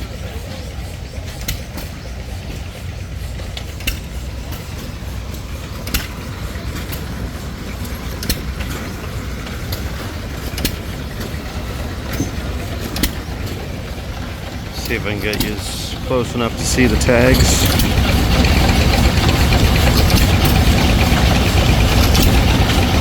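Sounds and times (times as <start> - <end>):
stationary engine rumbling: 0.0 - 23.0.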